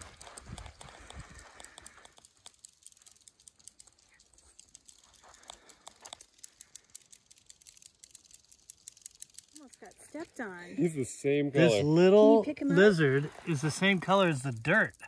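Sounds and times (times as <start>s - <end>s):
insects clicking: 0.0s - 10.8s, 13.3s - 15.0s.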